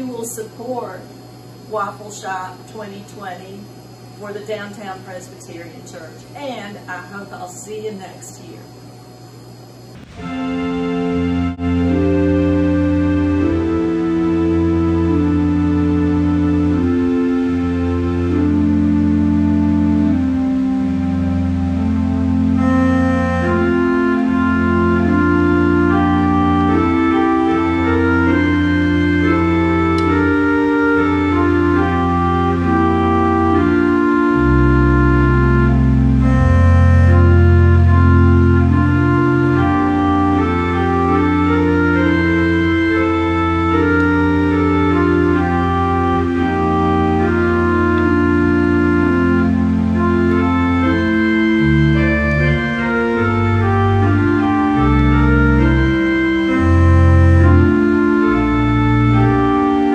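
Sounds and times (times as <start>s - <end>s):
slow organ chords: 0.0s - 59.9s.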